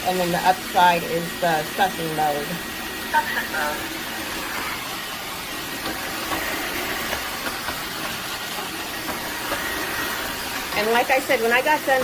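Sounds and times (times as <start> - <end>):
floor washer suction hiss: 0.0 - 12.0.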